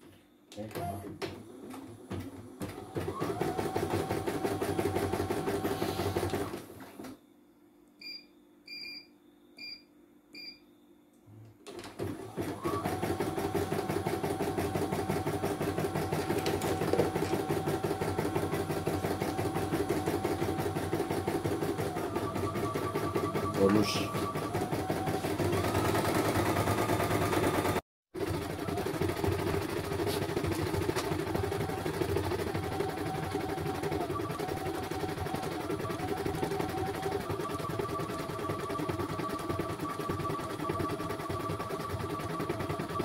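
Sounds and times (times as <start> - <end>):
embroidery machine stitching: 2.2 - 6.8, 11.7 - 43.0.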